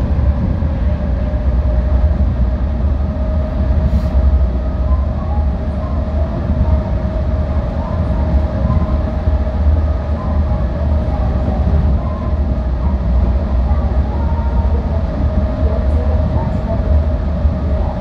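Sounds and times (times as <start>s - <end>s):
constant hum: 0.0s - 18.0s
train rumbling through tunnel: 0.0s - 18.0s.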